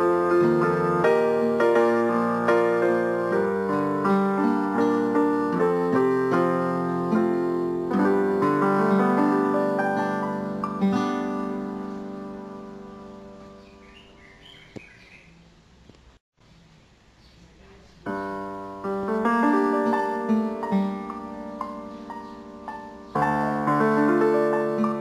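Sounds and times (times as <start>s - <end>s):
slow gentle piano music: 0.0s - 14.6s, 18.0s - 25.0s.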